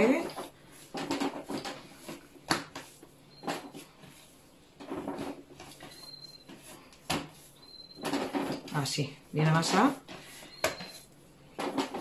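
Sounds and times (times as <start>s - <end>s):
dough thumping and slapping: 0.0s - 4.2s, 4.8s - 8.8s, 9.6s - 12.0s.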